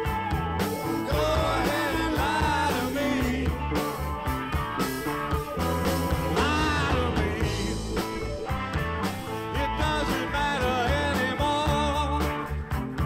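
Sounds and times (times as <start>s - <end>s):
bending guitar lead notes: 0.0s - 13.0s
blues rock band playing: 0.0s - 13.0s.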